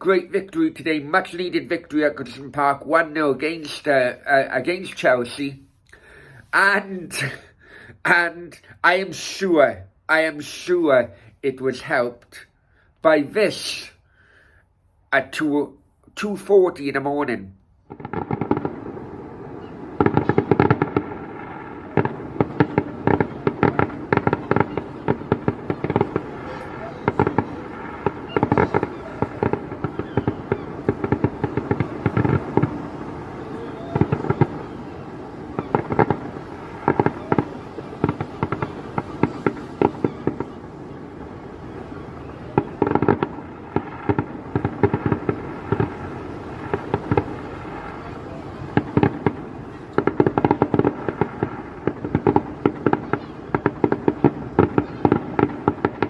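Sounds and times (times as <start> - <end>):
fireworks crackling bangs: 0.0 - 5.6, 6.4 - 12.4, 16.2 - 56.0.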